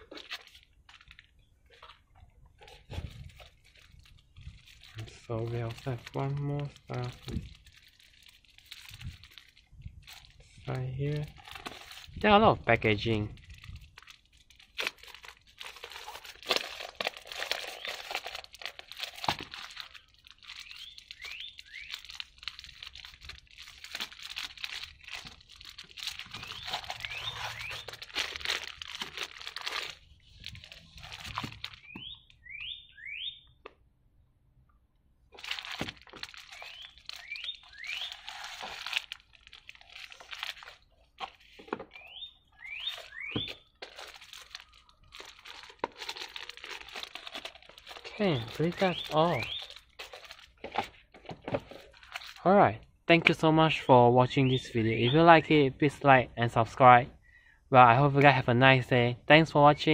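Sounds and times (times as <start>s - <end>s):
plastic wrapping crinkling: 0.0s - 32.4s, 35.3s - 52.5s.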